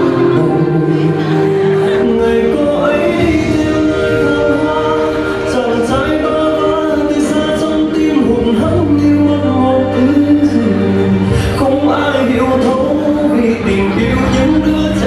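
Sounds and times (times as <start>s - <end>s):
person singing: 0.0s - 15.0s
sustained instrumental backing: 0.0s - 15.0s.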